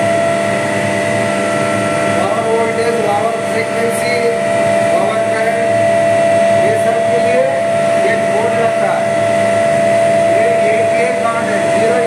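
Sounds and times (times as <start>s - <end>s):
high-pitched electrical whine: 0.0s - 12.0s
low electrical hum: 0.0s - 12.0s.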